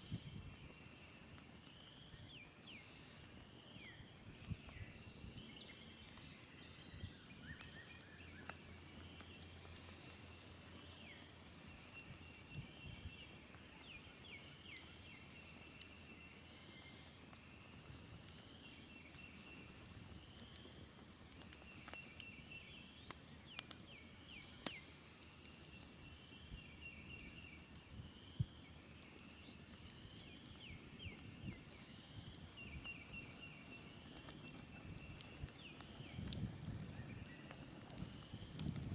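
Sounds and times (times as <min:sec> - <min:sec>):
campfire popping and snapping: 0:00.0 - 0:38.9
faint birdsong chirps: 0:00.0 - 0:38.9.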